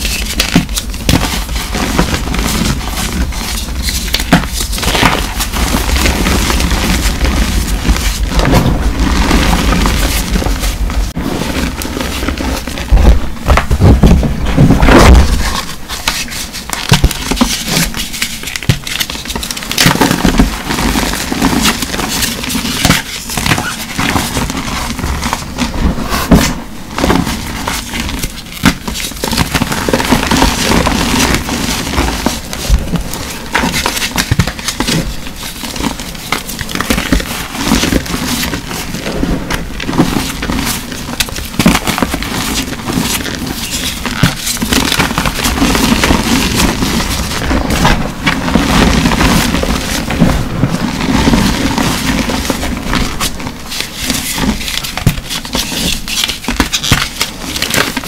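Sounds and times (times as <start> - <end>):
hands crushing chalk: 0.0 - 58.0.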